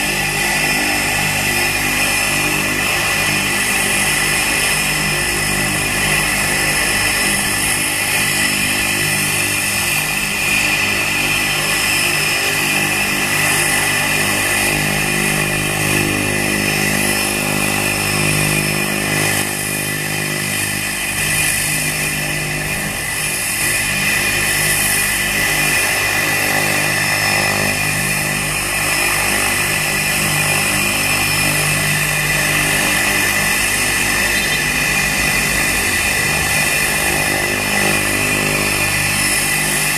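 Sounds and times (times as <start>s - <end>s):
propeller hum: 0.0s - 39.9s
turbine whine: 0.0s - 39.9s.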